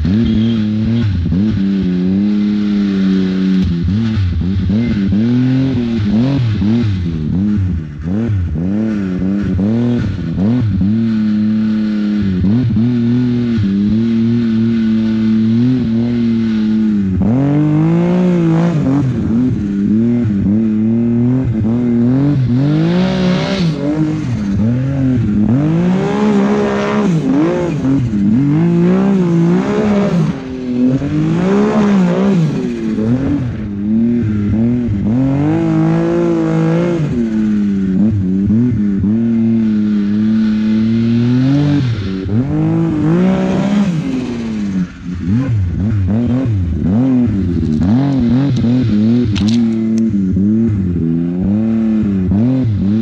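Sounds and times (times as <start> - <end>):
snowmobile engine revving: 0.0 - 53.0.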